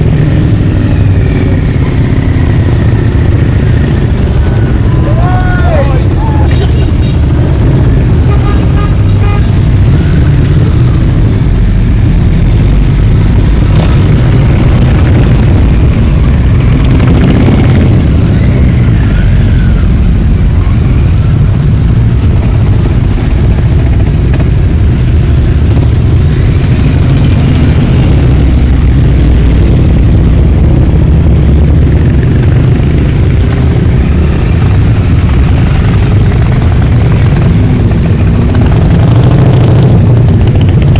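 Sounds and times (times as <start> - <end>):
motorcycles riding past: 0.0 - 40.9.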